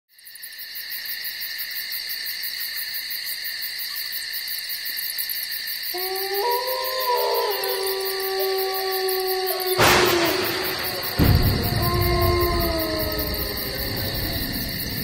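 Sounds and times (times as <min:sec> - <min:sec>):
crickets chirring: 0:00.1 - 0:15.0.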